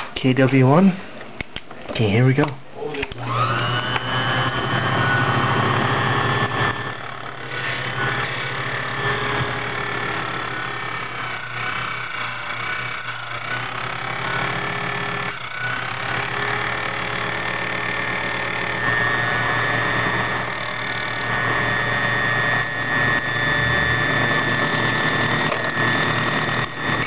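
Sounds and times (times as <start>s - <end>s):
key-cutting machine whining: 3.0s - 27.0s.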